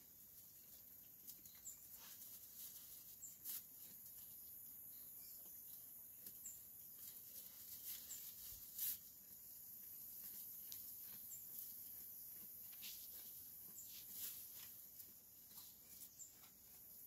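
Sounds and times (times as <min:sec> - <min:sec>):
sheep pulling hay and chewing: 0:00.6 - 0:04.6, 0:05.8 - 0:17.0.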